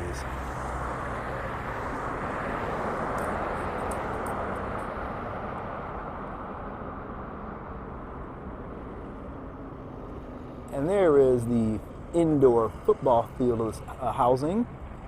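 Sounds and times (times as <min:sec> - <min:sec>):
passing vehicle traffic: 0:00.0 - 0:15.0.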